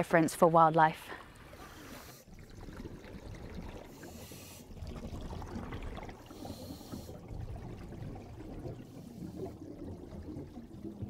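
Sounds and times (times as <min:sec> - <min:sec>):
water trickling: 0:01.1 - 0:11.0.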